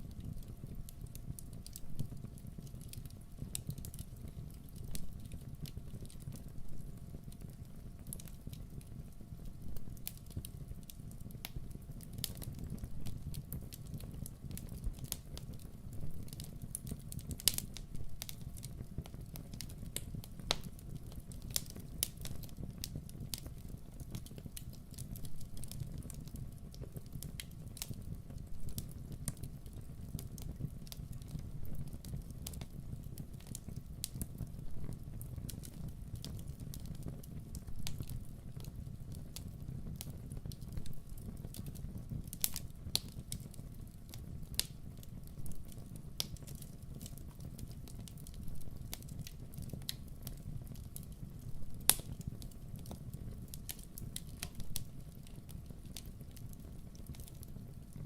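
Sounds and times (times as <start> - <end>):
burning wood crackling and popping: 0.0 - 58.0.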